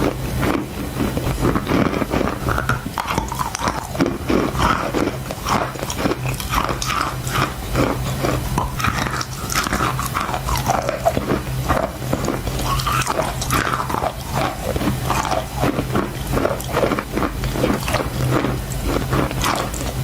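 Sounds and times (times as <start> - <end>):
crunching and chewing chalk: 0.0 - 20.0
faint low hum: 0.0 - 20.0.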